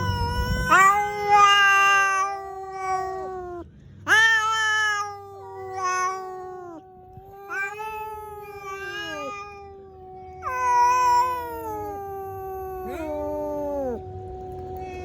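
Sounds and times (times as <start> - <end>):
angry cat yowling: 0.0 - 15.0.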